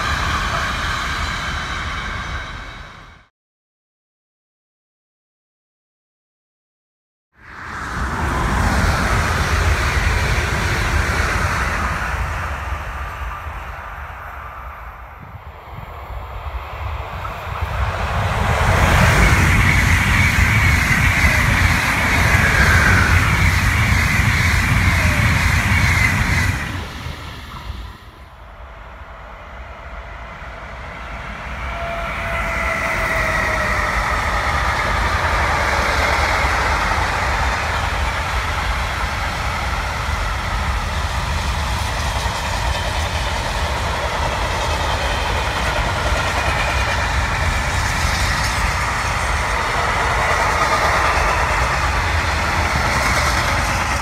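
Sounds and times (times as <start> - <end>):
freight train wheels on rails: 0.0 - 3.3, 7.4 - 54.0
train passing at speed: 0.0 - 3.3, 7.4 - 54.0.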